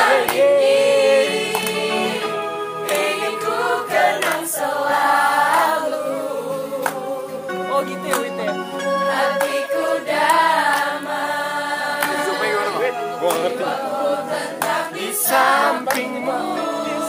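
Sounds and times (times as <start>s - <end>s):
choir singing: 0.0s - 8.0s, 8.9s - 17.0s.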